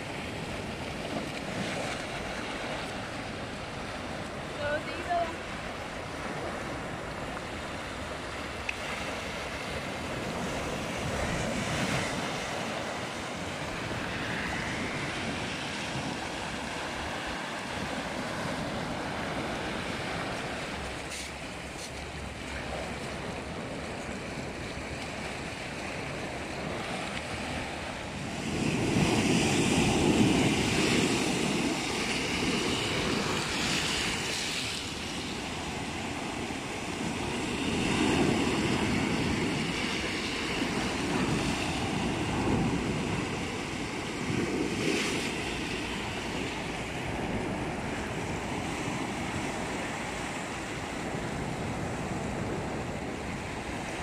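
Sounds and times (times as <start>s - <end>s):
waves breaking on rocks: 0.0s - 54.0s.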